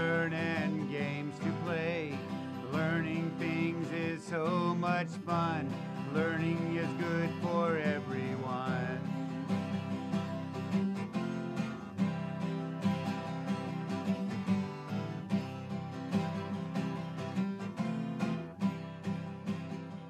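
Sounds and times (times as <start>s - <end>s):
strummed acoustic guitar with beat: 0.0s - 20.0s.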